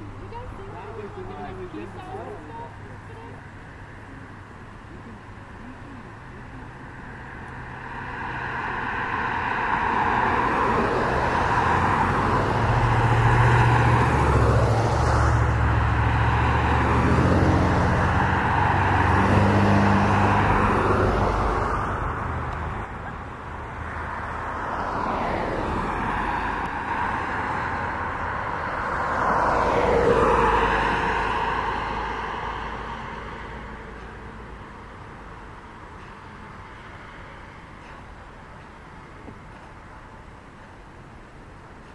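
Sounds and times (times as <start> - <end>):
vehicles passing by: 0.0 - 41.9.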